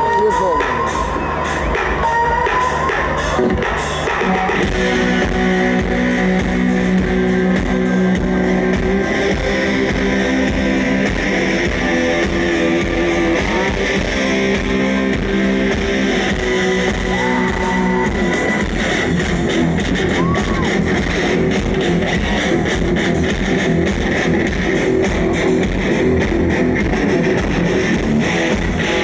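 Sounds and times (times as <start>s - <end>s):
bass guitar: 0.0s - 29.0s
electric guitars sustained chords: 0.0s - 29.0s
rock band playing: 0.0s - 29.0s.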